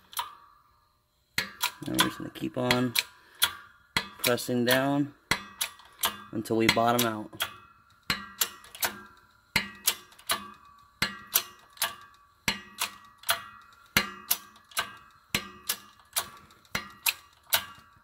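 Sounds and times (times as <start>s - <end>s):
shop press metallic clicks: 1.4s - 18.0s.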